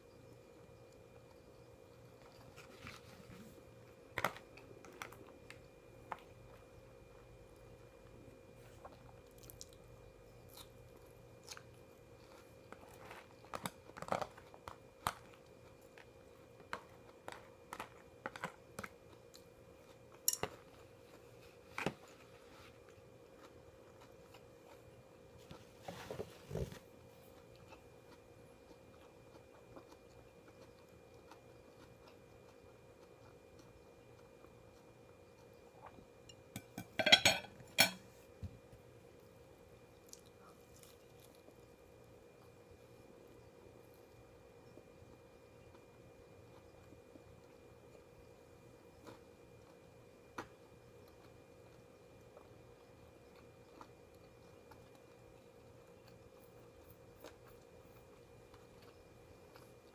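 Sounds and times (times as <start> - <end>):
faint steady hum: 0.0 - 59.9
person chewing crunchy food: 0.5 - 37.0, 39.8 - 59.9.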